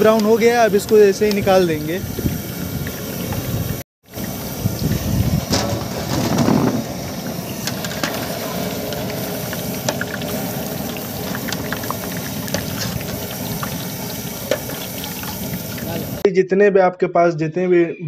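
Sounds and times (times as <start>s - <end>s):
oil sizzling and bubbling: 0.0s - 16.2s.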